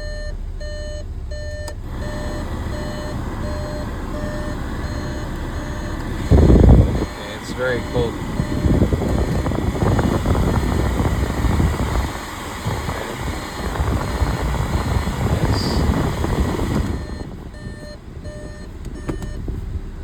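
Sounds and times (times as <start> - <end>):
car air conditioning blower: 0.0 - 20.0
car engine idling: 0.0 - 20.0.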